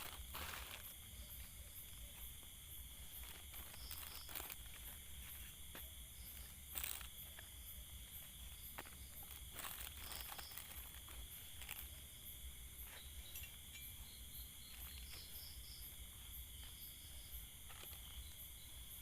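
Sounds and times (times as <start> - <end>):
crickets and insects chirring: 0.0 - 19.0.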